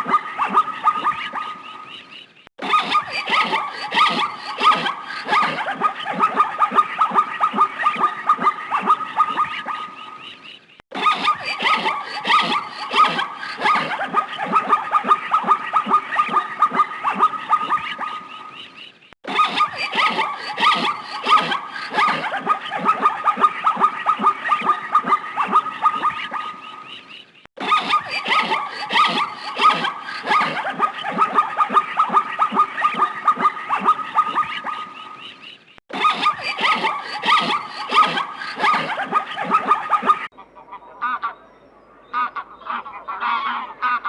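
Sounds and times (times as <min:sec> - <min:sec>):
rapid animal calls: 0:00.0 - 0:44.0.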